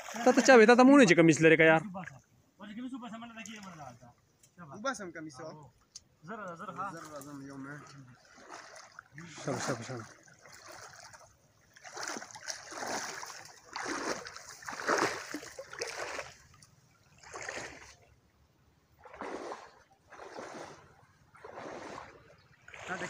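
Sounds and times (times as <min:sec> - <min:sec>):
river water splashing: 0:00.0 - 0:04.4, 0:05.7 - 0:23.0.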